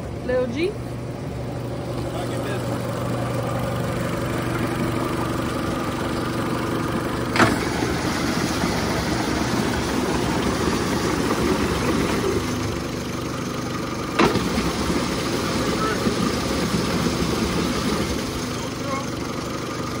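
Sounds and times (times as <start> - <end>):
outboard motor idling: 0.0 - 20.0.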